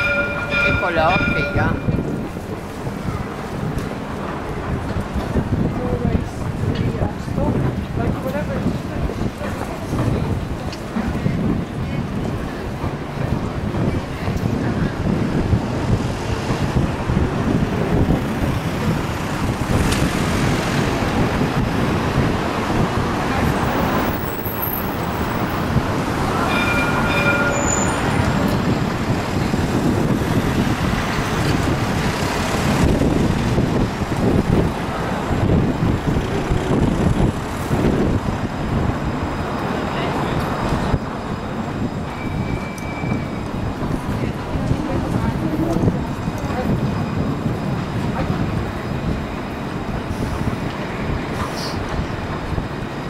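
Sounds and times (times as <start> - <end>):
street traffic: 0.0 - 53.0
tram rumbling past: 0.0 - 53.0.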